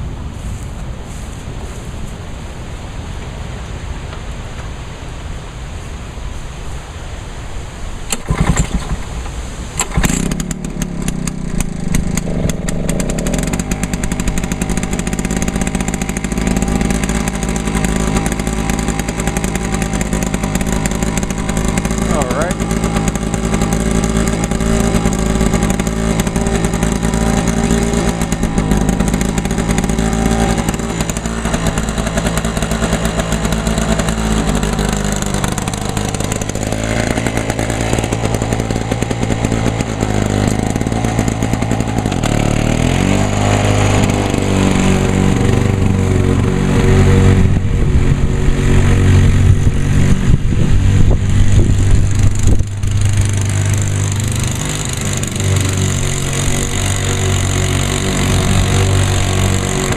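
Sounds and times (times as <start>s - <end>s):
lawn mower engine running: 8.0s - 59.9s.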